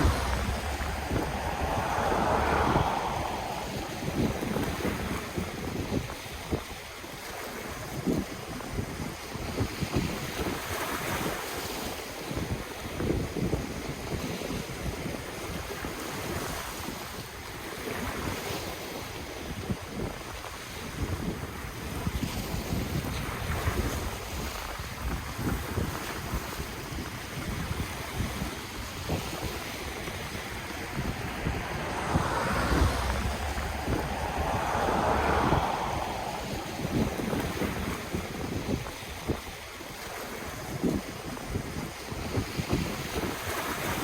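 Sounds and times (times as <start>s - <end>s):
ocean waves washing on shore: 0.0s - 14.3s, 18.0s - 44.0s
wind buffeting microphone: 0.0s - 17.4s, 19.2s - 44.0s.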